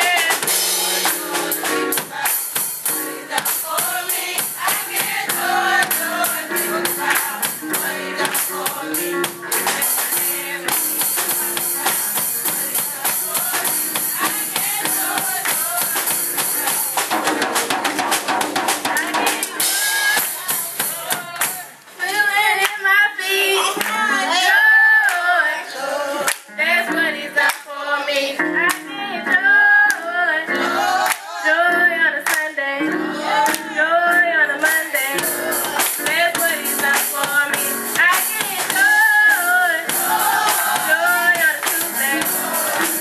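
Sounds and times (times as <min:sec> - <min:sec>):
youth choir singing gospel: 0:00.0 - 0:43.0.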